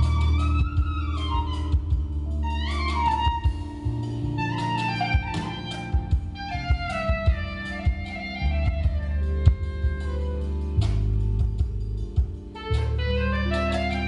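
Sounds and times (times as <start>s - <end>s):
clarinet folk improvisation: 0.0s - 11.1s, 12.6s - 14.0s
held low accompaniment notes: 0.0s - 14.0s.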